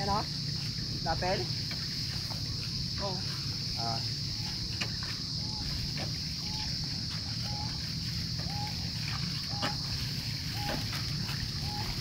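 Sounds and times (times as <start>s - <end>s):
insect drone: 0.0s - 12.0s
bird calling: 1.8s - 12.0s.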